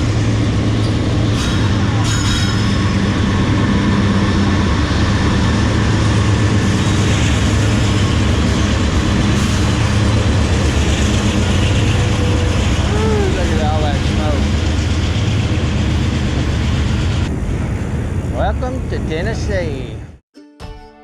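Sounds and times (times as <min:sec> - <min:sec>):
train passing on bridge: 0:00.0 - 0:20.2.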